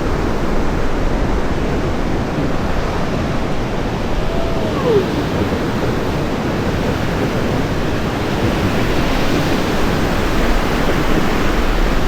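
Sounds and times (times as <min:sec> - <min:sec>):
surf rushing at shore: 0:00.0 - 0:12.0
wind buffeting microphone: 0:00.0 - 0:12.0.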